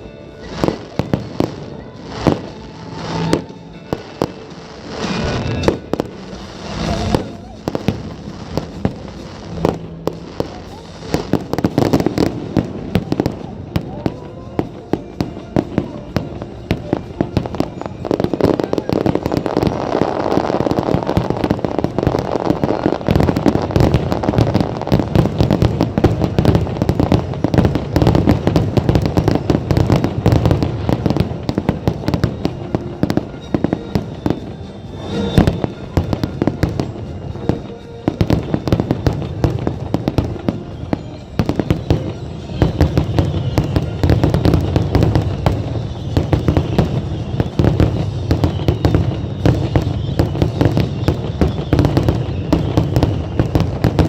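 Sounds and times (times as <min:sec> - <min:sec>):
fireworks bursting: 0:00.0 - 0:54.0
music playing: 0:00.0 - 0:54.0.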